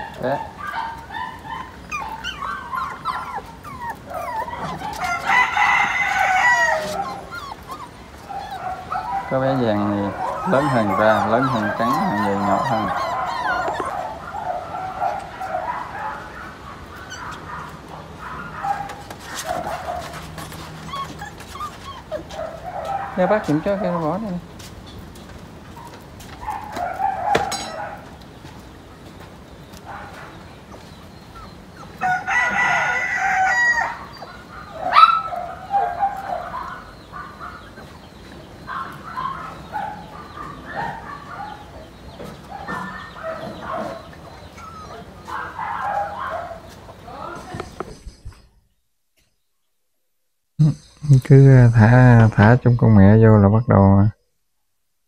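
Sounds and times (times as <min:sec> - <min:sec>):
puppies whining and yipping: 0:00.0 - 0:48.7, 0:50.8 - 0:53.9.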